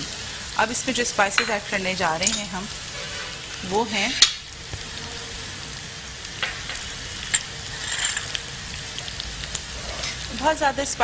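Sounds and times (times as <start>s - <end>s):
okra sizzling in oil: 0.0s - 11.0s.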